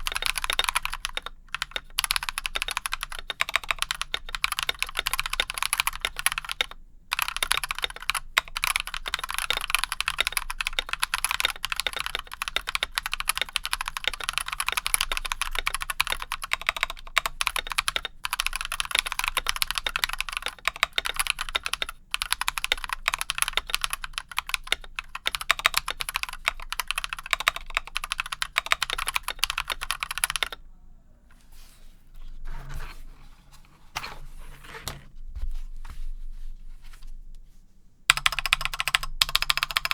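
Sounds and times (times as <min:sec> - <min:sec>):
fast typing on mechanical keyboard: 0:00.0 - 0:30.6, 0:38.1 - 0:39.9.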